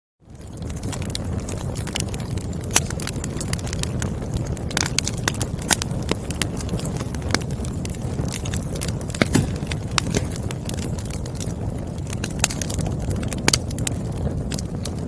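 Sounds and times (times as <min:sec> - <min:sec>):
low rumble of flames: 0:00.2 - 0:15.0
wood fire crackling: 0:00.2 - 0:15.0.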